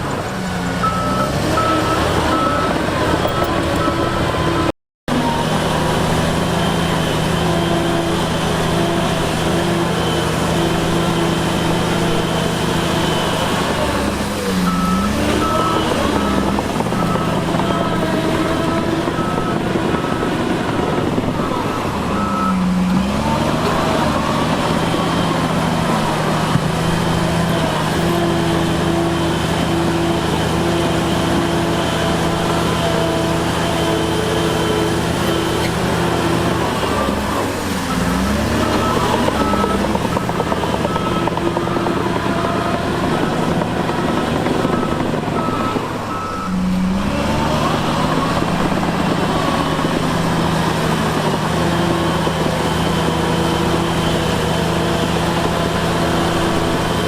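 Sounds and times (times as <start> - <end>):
heavy diesel engines running: 0.0 - 57.0
high-pitched reversing alarm beeping: 0.8 - 5.7, 6.3 - 35.7, 36.3 - 50.1
low-pitched reversing alarm beeping: 0.8 - 35.7, 36.3 - 50.0.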